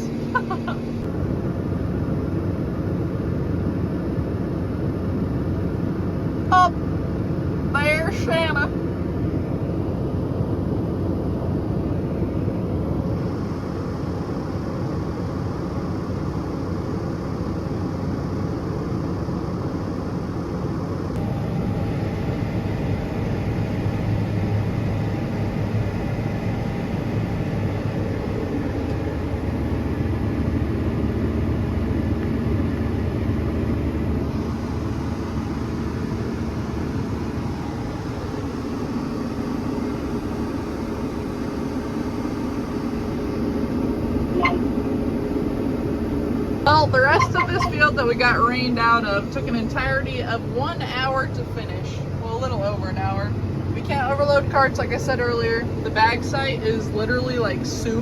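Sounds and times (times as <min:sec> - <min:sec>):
heavy machinery engine droning: 0:00.0 - 0:58.0.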